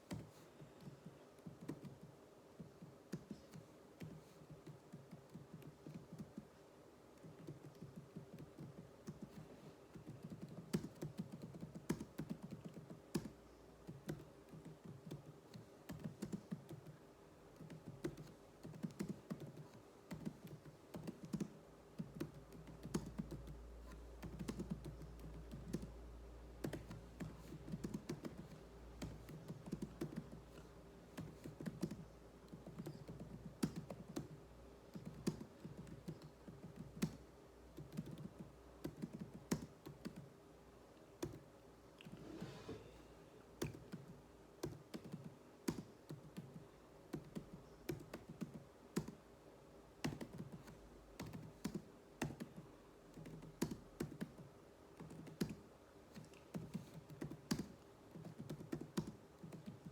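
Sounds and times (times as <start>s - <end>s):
typing on computer keyboard: 0.1s - 6.5s, 7.2s - 17.0s, 17.6s - 26.0s, 26.6s - 37.2s, 37.8s - 40.3s, 43.6s - 49.2s, 50.0s - 59.9s.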